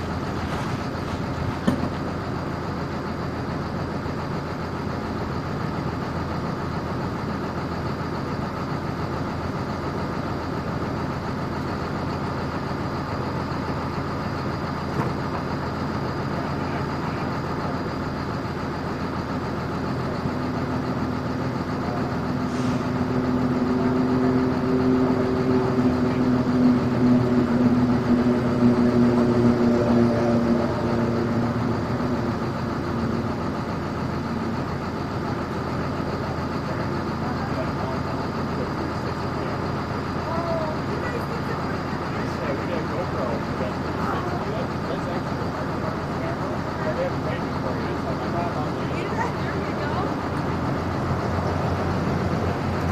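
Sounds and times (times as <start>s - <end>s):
heavy vehicle engine running: 0.0s - 52.9s.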